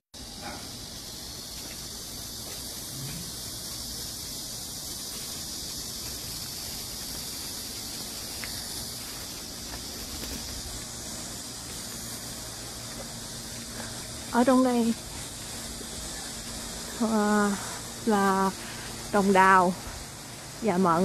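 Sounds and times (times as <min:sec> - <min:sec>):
cicadas buzzing: 0:00.0 - 0:21.0.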